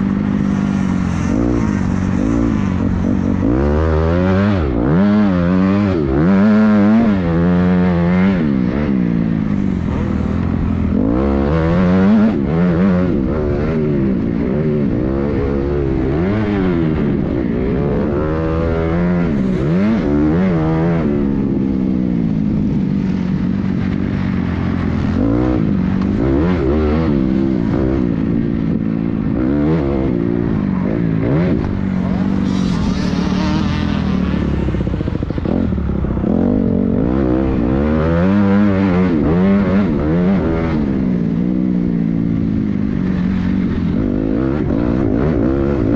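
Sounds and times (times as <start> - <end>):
engine drone: 0.0 - 45.9
motocross bikes revving: 0.0 - 45.9.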